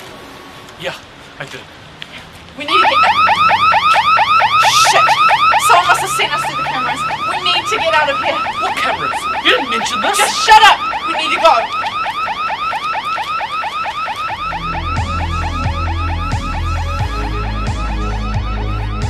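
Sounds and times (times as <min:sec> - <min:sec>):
electronic alarm rapid chirping: 0:02.7 - 0:19.0.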